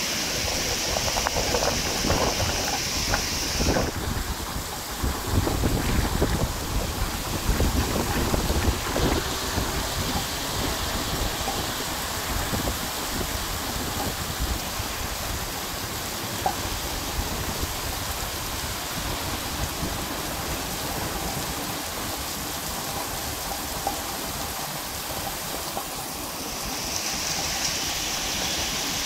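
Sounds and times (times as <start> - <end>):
heavy rain on wet street: 0.0 - 29.0.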